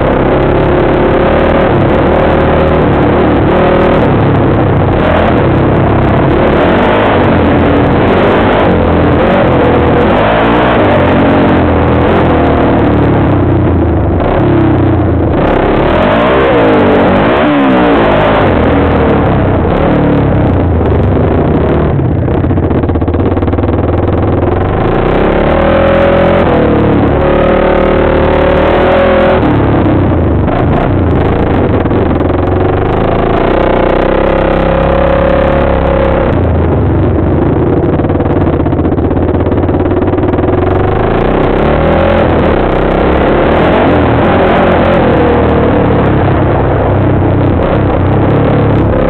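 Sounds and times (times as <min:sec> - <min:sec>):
quad bike engine revving: 0:00.0 - 0:49.0.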